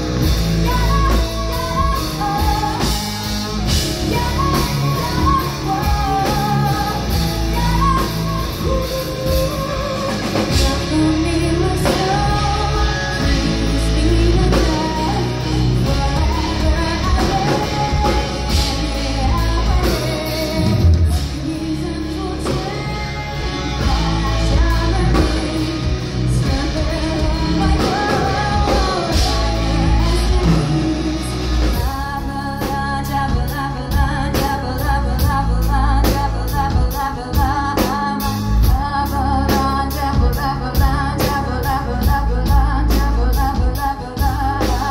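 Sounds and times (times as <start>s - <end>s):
live folk-metal band playing: 0.0s - 44.9s
woman singing lead vocals: 0.0s - 44.9s.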